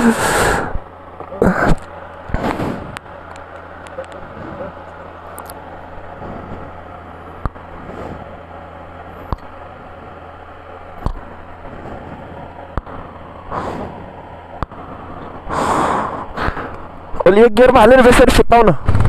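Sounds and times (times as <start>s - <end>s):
motorcycle engine hum: 0.0s - 18.1s, 18.8s - 19.0s
noisy wash: 0.0s - 19.0s.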